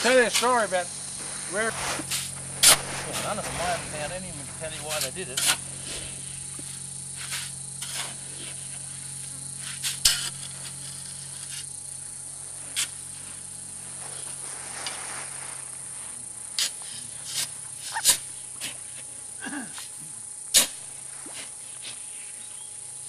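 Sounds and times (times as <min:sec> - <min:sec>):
shovel scraping into sand: 0:00.0 - 0:11.8, 0:12.6 - 0:19.1, 0:19.8 - 0:22.5
high-pitched buzz of insects: 0:00.0 - 0:23.0.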